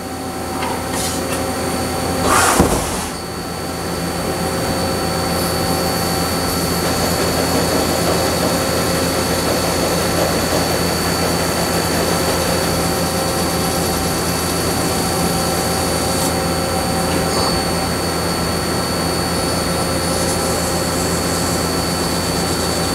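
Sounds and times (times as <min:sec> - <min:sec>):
high steady machine whines: 0:00.0 - 0:22.9.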